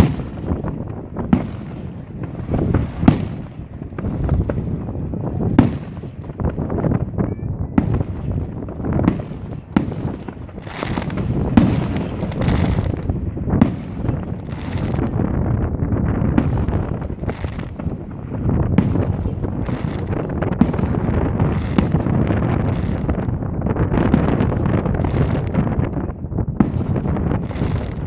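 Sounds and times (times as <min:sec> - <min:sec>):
firework bangs: 0:00.0 - 0:28.0
firework crackling: 0:00.0 - 0:28.0.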